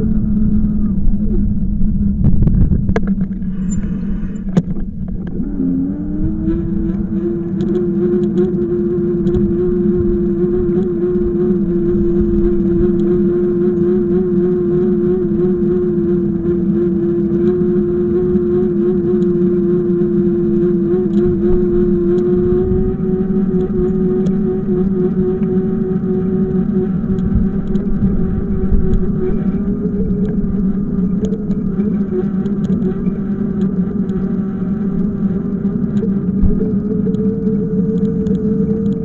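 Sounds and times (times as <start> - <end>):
road rumble: 0.0 - 39.0
vehicle whine: 0.0 - 39.0.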